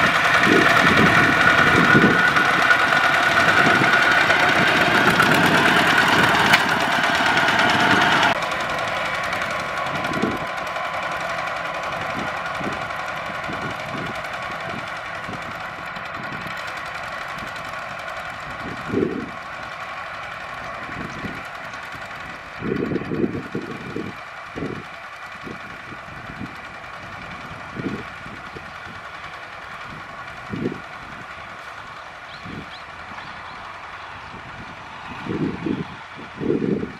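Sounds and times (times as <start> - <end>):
low rumbles: 0.0 - 36.9
walking tractor diesel engines: 0.0 - 36.9.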